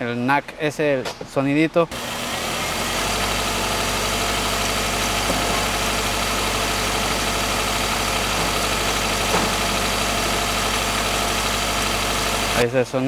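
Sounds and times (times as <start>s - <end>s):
car engine running with rattle: 2.0s - 12.8s.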